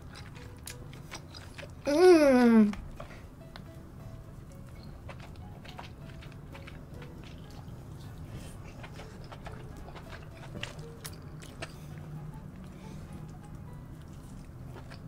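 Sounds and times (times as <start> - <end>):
wet chewing: 0.0 - 3.8, 4.4 - 15.0.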